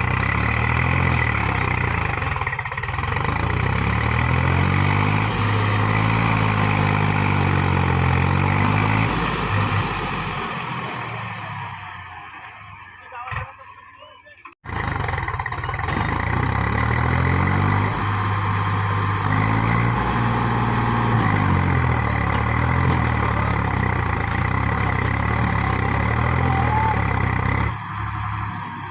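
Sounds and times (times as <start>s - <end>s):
tractor diesel engine revving: 0.0s - 28.9s.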